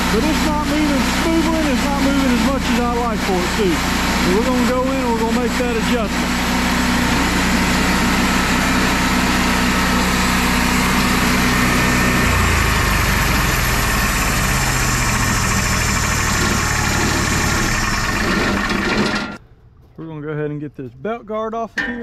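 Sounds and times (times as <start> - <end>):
hydraulic pump: 0.0 - 19.4
sawmill engine running: 0.0 - 19.4.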